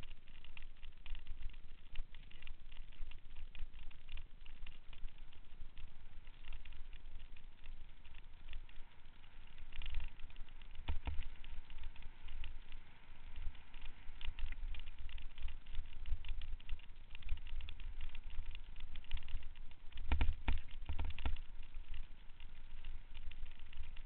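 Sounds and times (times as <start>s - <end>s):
bike rattling: 0.0s - 24.0s.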